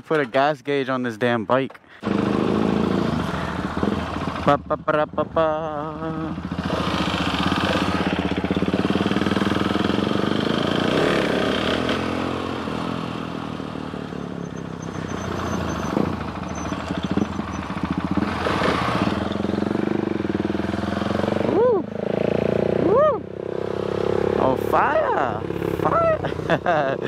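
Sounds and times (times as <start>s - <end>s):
motorcycle engine running: 2.0s - 27.0s.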